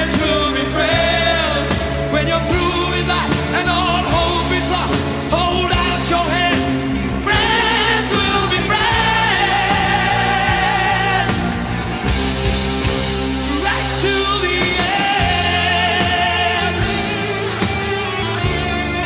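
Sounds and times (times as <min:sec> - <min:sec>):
full band backing: 0:00.0 - 0:19.0.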